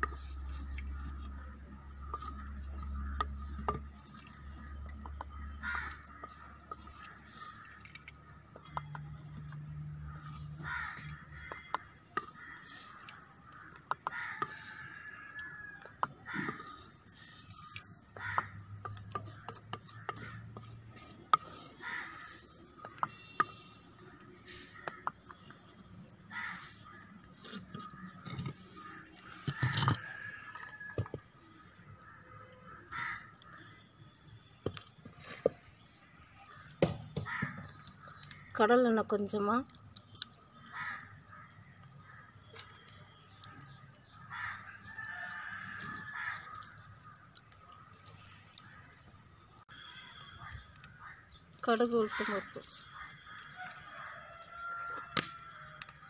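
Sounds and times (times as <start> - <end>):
crows cawing: 2.4 - 34.8, 36.5 - 38.6, 40.5 - 56.0.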